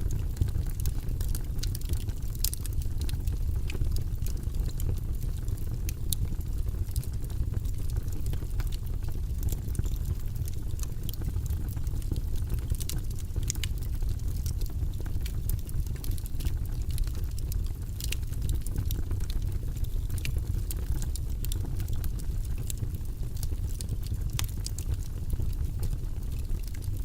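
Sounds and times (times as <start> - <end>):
low rumble of flames: 0.0 - 27.0
wood fire crackling and popping: 0.0 - 27.0.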